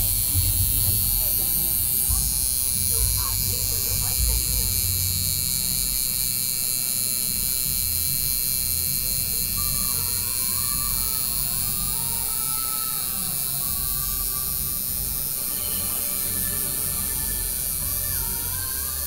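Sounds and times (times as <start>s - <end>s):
tattoo machine buzzing: 0.0s - 19.0s.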